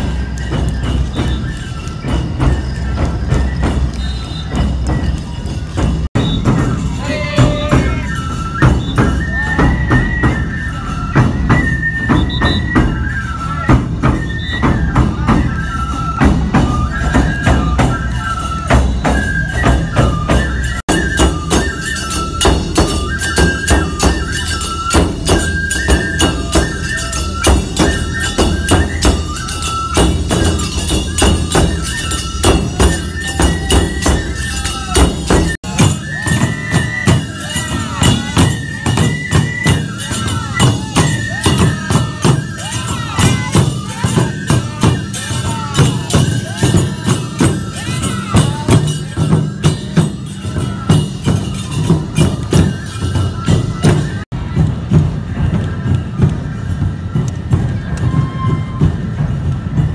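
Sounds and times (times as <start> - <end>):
ringing hand cymbals: 0.0 - 54.3
bamboo flutes melody: 0.0 - 59.9
taiko drum beats: 0.0 - 59.9.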